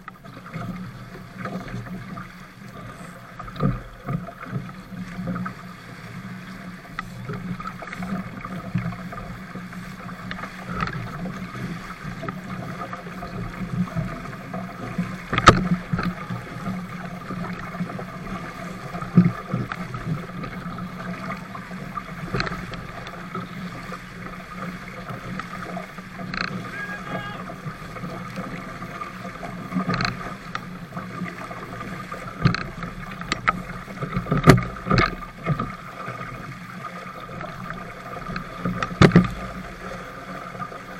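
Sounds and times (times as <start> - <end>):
water rushing along a hull: 0.0 - 40.9
waves slapping against a hull: 0.0 - 40.9.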